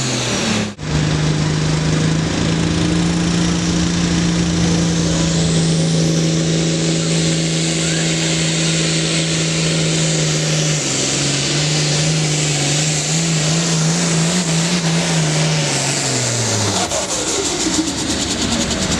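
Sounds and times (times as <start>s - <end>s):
engine running at high revs: 0.0s - 18.9s.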